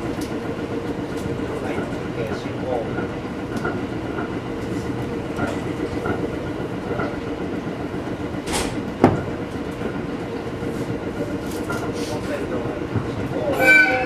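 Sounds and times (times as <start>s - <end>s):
rail clicks: 0.0s - 14.0s
train wheels and motors rumbling: 0.0s - 14.0s.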